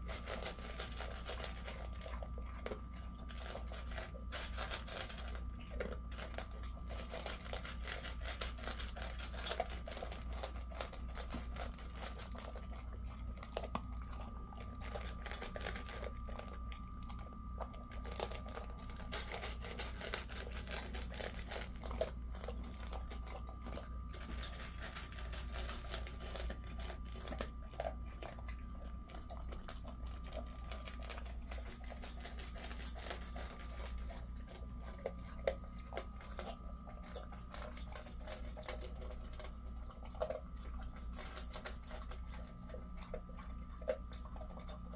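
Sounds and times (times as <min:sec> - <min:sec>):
dog crunching kibble: 0:00.0 - 0:44.9
kibble clicking on metal bowl: 0:00.0 - 0:44.9.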